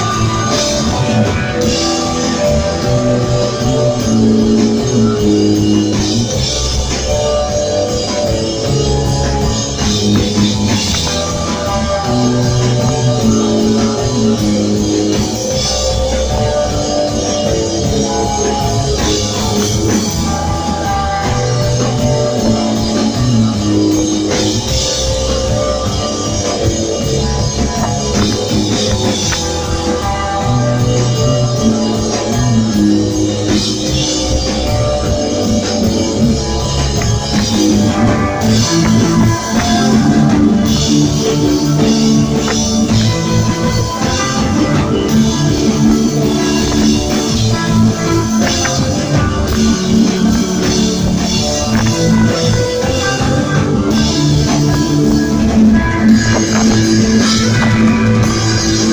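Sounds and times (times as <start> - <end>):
rock band playing: 0.0 - 58.9.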